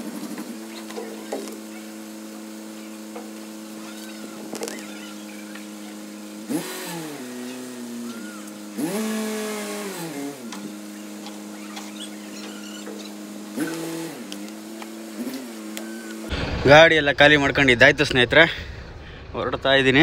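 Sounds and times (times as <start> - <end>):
crane engine running and revving: 0.0 - 20.0.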